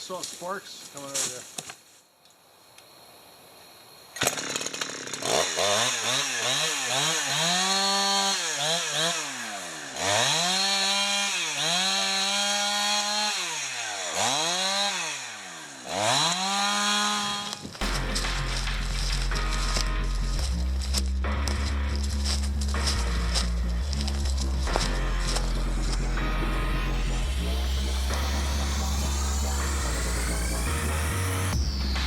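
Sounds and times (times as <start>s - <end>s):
chainsaw revving and idling: 4.2s - 32.0s.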